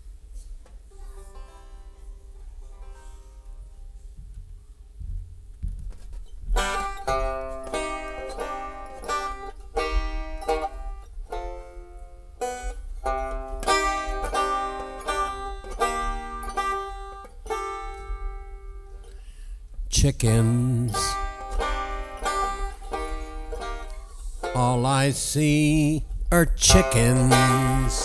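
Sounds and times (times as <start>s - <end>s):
banjo plucked notes and chords: 0.9s - 3.9s, 6.2s - 19.1s, 20.0s - 26.0s, 26.6s - 28.0s.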